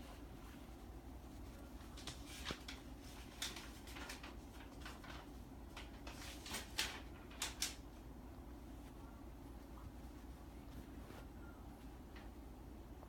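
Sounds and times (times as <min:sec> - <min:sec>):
faint rustles and clicks: 0:00.0 - 0:13.0
low steady hum: 0:00.0 - 0:13.0.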